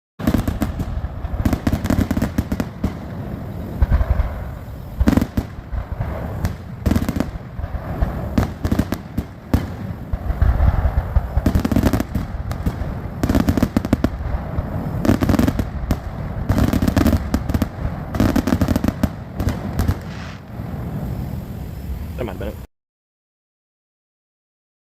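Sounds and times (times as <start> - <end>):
fireworks booming and crackling: 0.2 - 22.7.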